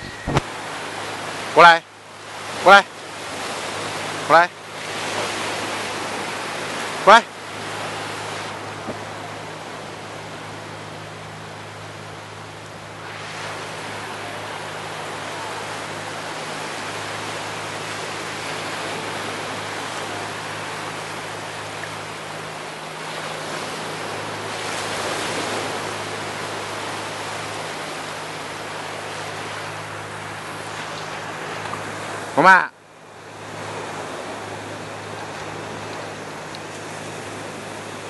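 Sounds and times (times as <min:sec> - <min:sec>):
small waves washing on beach: 0:00.0 - 0:38.0.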